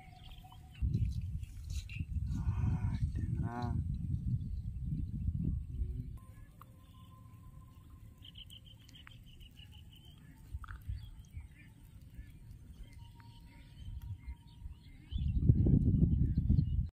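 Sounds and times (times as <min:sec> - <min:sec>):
bird chirping: 0:00.0 - 0:02.3, 0:04.3 - 0:16.9.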